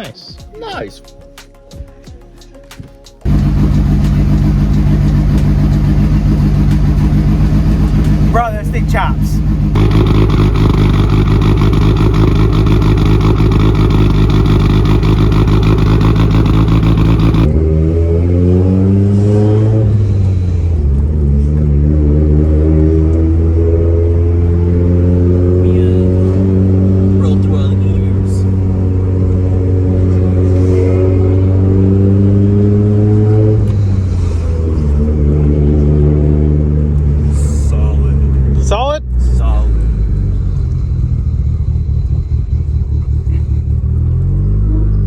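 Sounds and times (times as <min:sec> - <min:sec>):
car engine running under load: 0:03.2 - 0:45.0.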